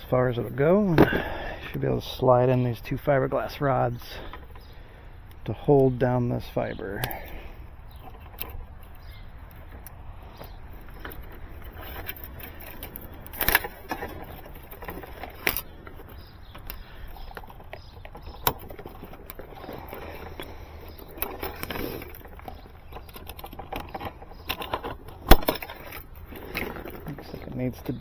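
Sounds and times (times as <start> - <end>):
rustling handling noise: 0.0 - 28.0
steady low rumble: 0.0 - 28.0
sharp clicks and knocks: 2.4 - 28.0.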